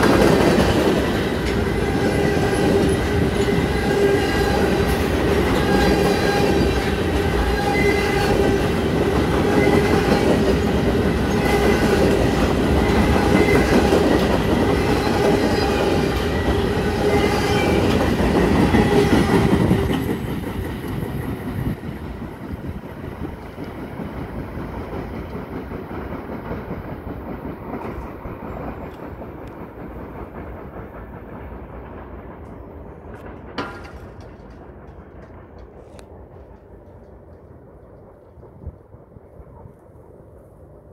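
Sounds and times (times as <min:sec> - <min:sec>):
train wheels rumbling and clacking: 0:00.0 - 0:40.5.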